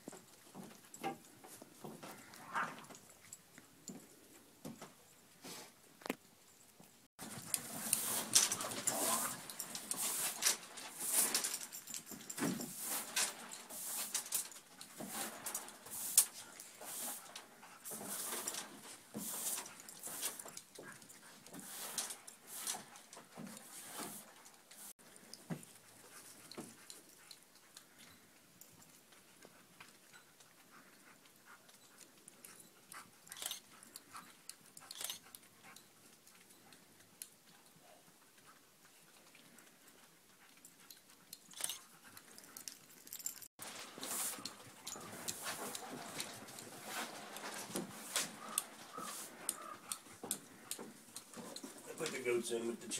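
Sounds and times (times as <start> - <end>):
rustling and clicking in snow: 6.8 - 52.9.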